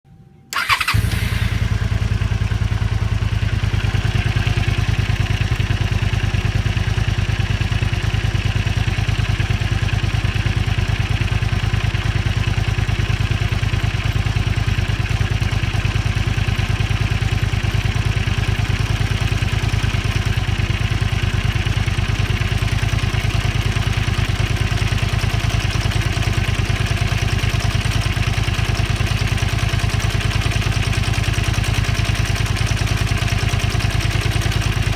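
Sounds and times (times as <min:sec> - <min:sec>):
motorcycle engine idling: 0:00.6 - 0:34.9.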